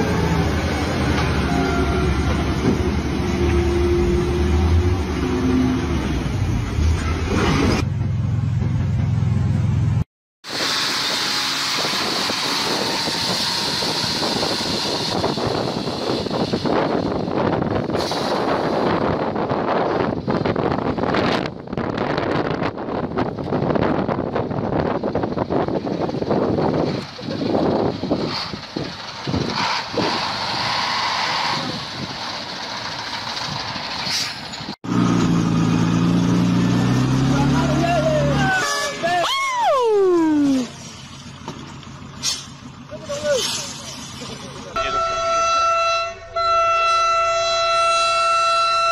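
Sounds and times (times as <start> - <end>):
heavy truck engine running: 0.0 - 38.5, 40.0 - 45.2.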